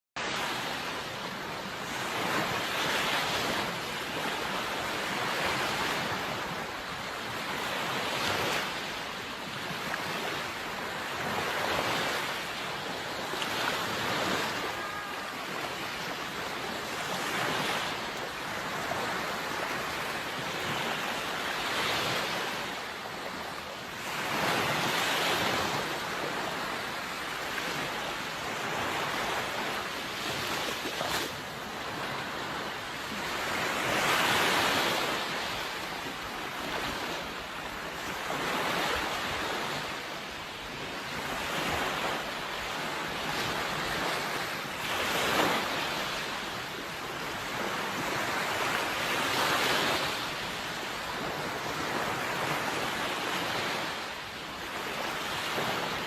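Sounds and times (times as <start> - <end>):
sea waves washing in: 0.2 - 56.0.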